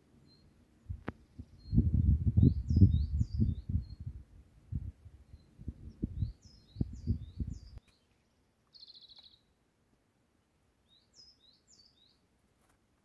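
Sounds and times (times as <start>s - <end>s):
small songbirds chirping: 0.0s - 9.7s, 10.7s - 12.5s.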